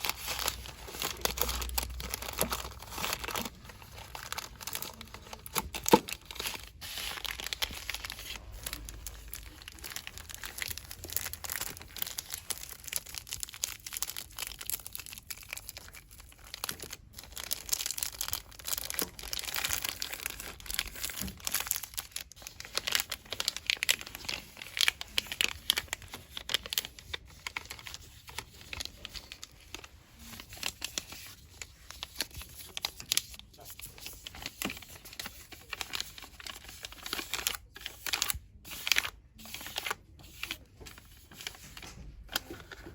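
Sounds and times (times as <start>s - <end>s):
packaging crinkling and rustling: 0.0s - 42.9s.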